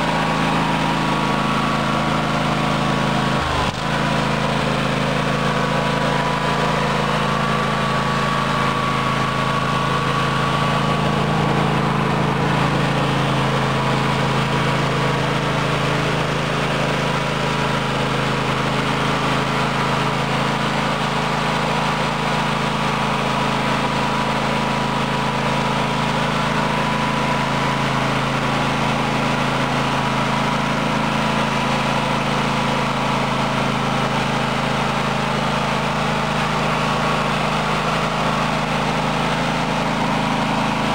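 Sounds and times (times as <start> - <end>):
lawn mower engine droning: 0.0 - 40.9.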